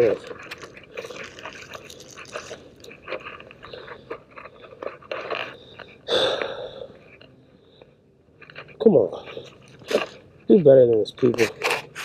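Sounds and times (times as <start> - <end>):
crinkling and crunching: 0.0 - 6.1, 8.4 - 12.0.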